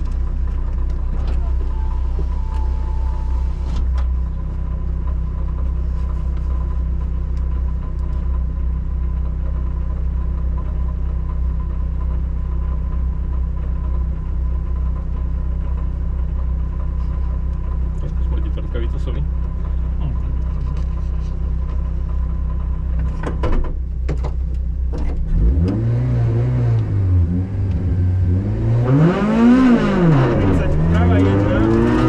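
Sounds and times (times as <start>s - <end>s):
car engine idling: 0.0s - 25.7s, 26.7s - 32.0s.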